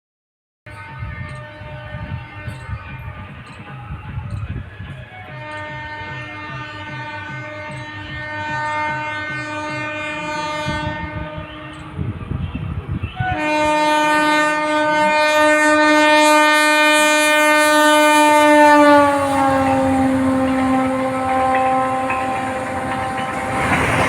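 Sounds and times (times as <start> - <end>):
train horn: 0.7 - 12.2, 13.1 - 24.0
train wheel clatter: 0.7 - 13.3, 16.3 - 24.0.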